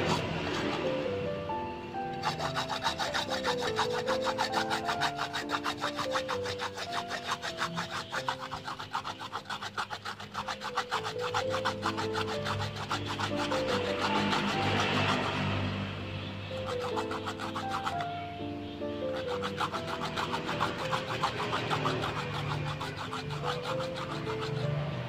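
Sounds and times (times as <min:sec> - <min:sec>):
carrot grated on metal grater: 0:00.0 - 0:01.0, 0:02.1 - 0:15.8, 0:16.4 - 0:18.2, 0:19.0 - 0:24.9.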